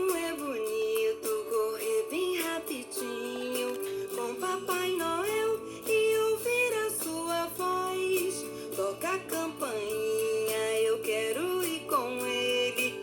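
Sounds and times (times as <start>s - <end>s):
instrumental accompaniment with beat: 0.0s - 13.0s
person singing: 0.0s - 13.0s.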